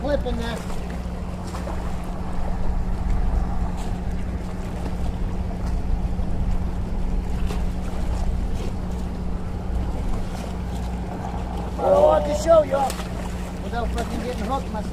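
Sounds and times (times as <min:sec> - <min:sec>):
wind rumble: 0:00.0 - 0:14.0
light water splashes: 0:00.0 - 0:14.9
low motor hum: 0:00.0 - 0:14.9.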